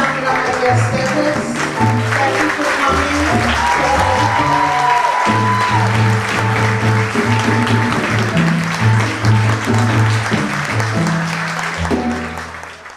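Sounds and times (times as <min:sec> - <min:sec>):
audience applause: 0:00.0 - 0:12.9
piano bass and percussion trio: 0:00.0 - 0:12.9.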